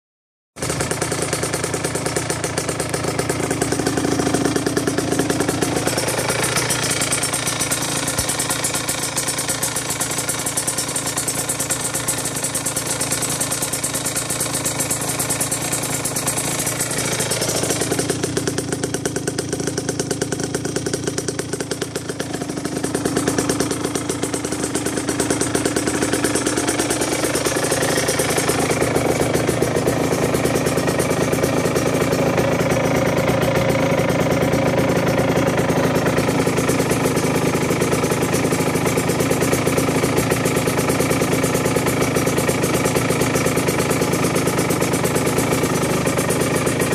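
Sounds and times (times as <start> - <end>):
motorcycle engine rough idle: 0.6 - 46.9.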